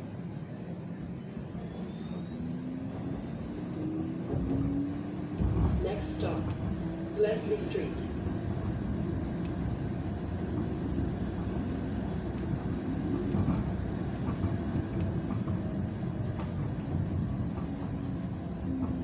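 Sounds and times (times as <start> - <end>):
streetcar rumbling on rails: 0.0 - 19.0.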